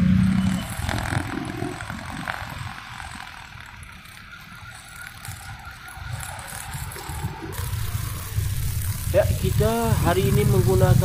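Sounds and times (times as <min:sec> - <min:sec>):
road traffic passing: 0:00.0 - 0:11.0
brush cutter trimming grass: 0:00.4 - 0:11.0.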